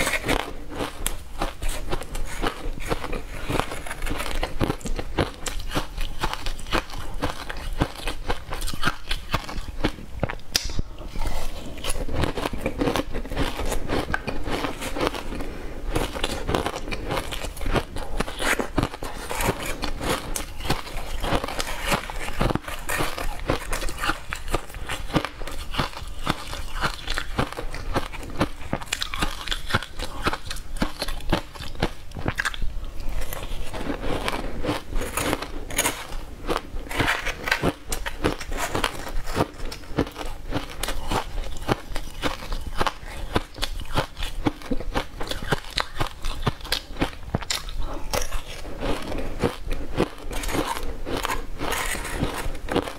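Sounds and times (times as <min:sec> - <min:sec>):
ice crunching being chewed: 0:00.0 - 0:10.4, 0:11.1 - 0:52.9.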